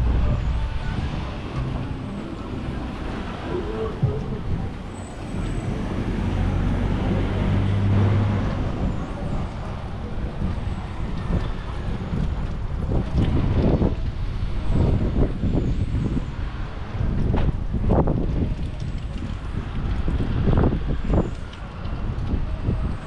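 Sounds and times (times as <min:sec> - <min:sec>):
road noise: 0:00.0 - 0:23.0.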